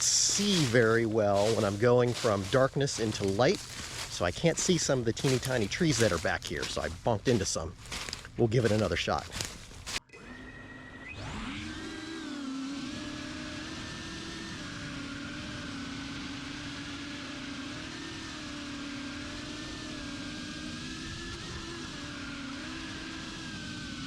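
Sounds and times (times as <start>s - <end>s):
quadcopter motors buzzing whine: 0.0s - 24.0s.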